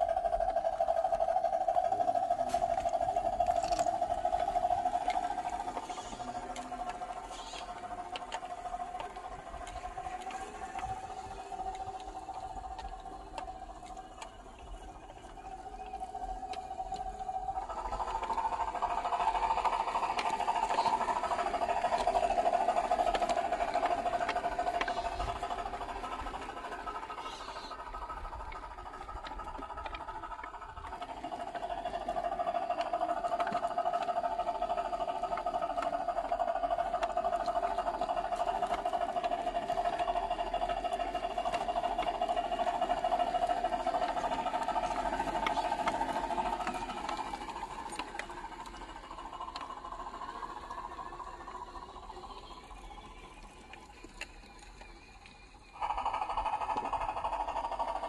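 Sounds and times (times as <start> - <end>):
electric motor and gear whine: 0.0 - 58.0.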